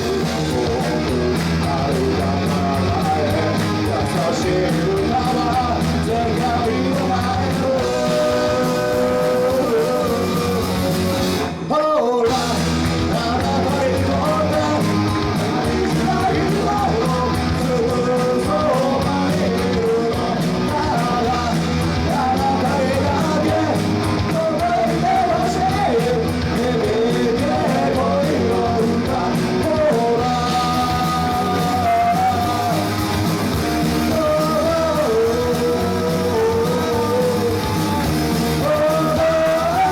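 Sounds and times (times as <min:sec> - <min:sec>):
band playing live: 0:00.0 - 0:39.9
person singing: 0:00.0 - 0:39.9.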